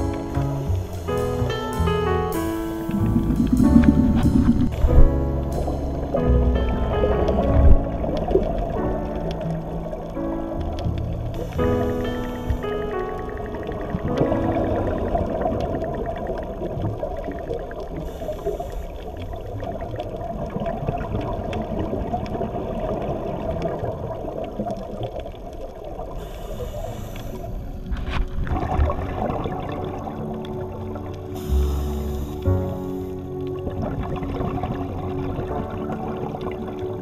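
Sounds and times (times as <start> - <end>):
underwater water noise: 0.0 - 37.0
faint crackling clicks: 2.4 - 37.0.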